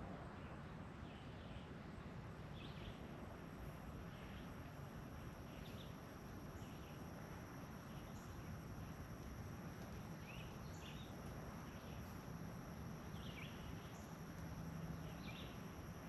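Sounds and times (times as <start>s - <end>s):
insect chirps: 2.6s - 16.0s.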